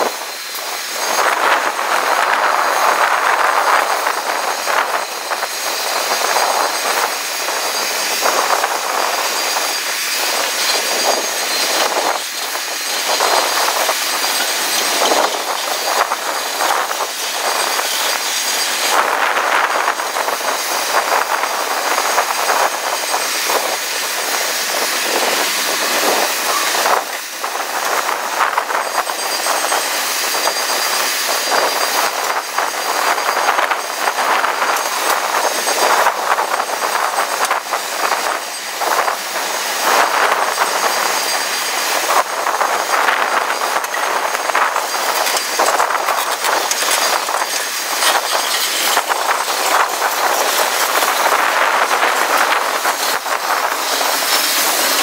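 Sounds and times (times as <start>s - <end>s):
train wheels rushing on rail: 0.0s - 55.0s
wheels clicking and knocking: 3.9s - 55.0s.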